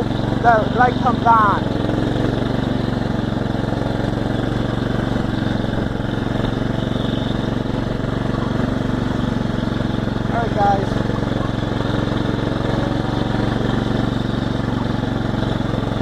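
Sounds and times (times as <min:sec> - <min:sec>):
small tractor engine running: 0:00.0 - 0:16.0.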